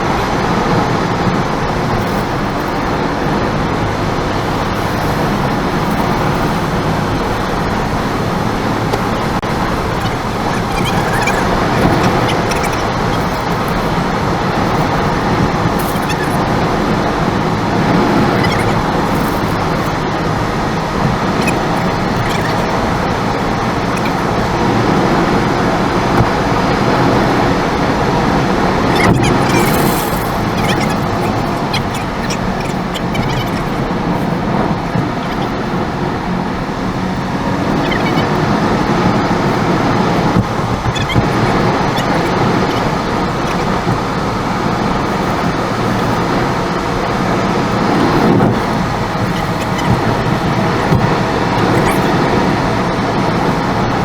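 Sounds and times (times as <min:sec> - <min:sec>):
car driving road noise: 0:00.0 - 0:54.0.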